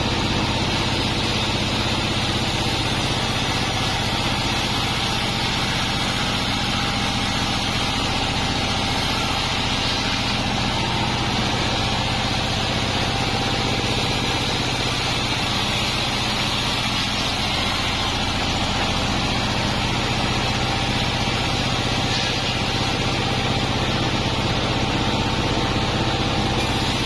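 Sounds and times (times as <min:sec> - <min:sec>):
bandsaw running: 0:00.0 - 0:27.0.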